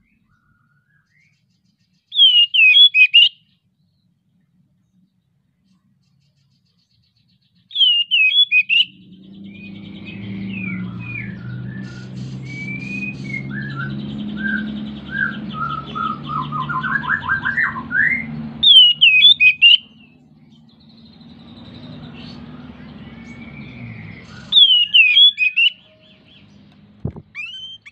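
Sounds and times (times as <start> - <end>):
bird singing whistled notes: 0.0 - 4.1, 6.7 - 27.9
bird chirps and warbles: 0.0 - 27.9.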